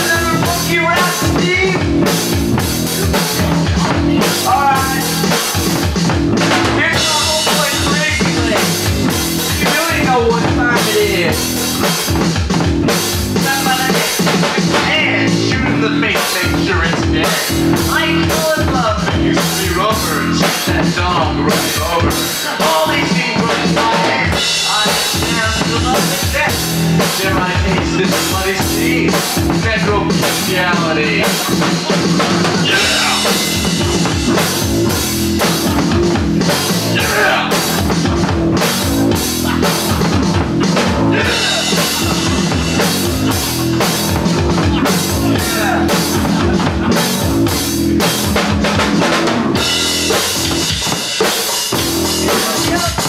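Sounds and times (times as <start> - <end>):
bass drum and snare hits: 0.0 - 15.6, 23.5 - 53.0
low bass line: 0.0 - 50.7
live rock band playing: 0.0 - 53.0.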